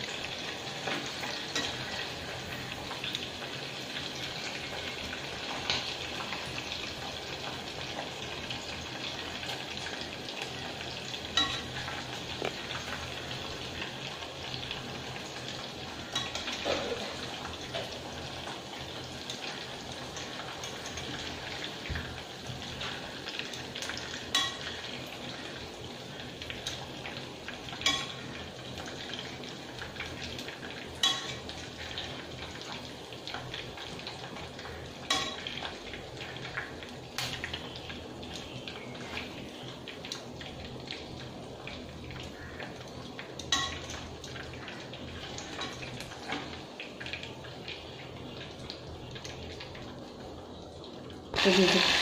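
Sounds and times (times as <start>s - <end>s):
deep-frying sizzle: 0.0s - 52.0s.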